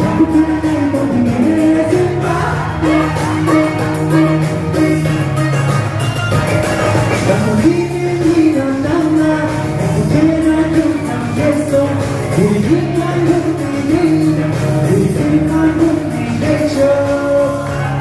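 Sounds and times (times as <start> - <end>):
person singing: 0.0 - 5.4, 7.1 - 18.0
amplified backing music with beat: 0.0 - 18.0.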